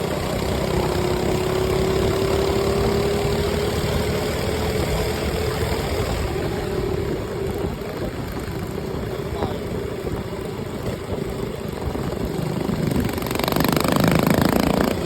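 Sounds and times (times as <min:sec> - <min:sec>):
minibike engine running: 0:00.0 - 0:15.0.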